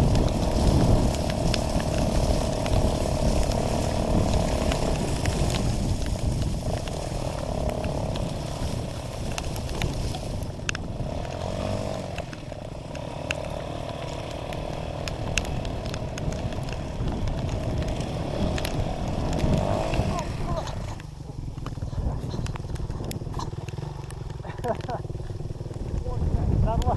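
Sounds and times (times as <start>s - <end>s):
dirt bike engine: 0.0s - 26.9s
wind rumble: 0.0s - 26.9s.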